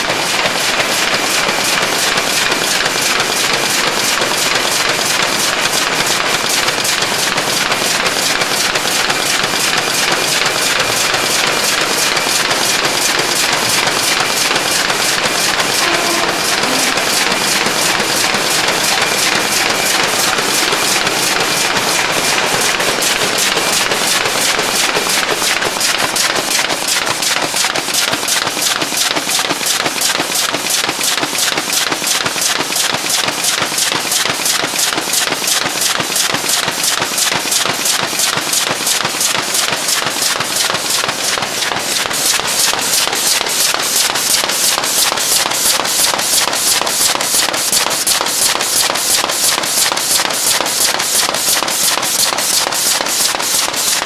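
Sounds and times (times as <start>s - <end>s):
machine clattering: 0.0s - 54.0s
steady mechanical hum: 0.0s - 54.0s.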